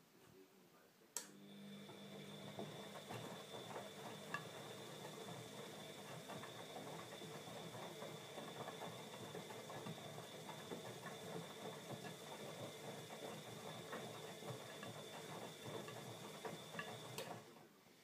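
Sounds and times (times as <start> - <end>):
water splashing in washing machine: 1.4 - 17.6.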